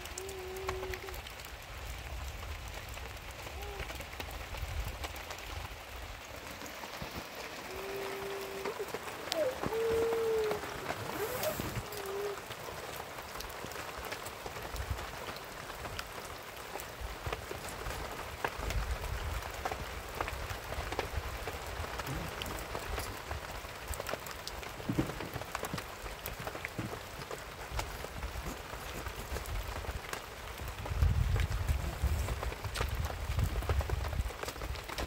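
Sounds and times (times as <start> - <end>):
rain on a plastic sheet: 0.0 - 35.0.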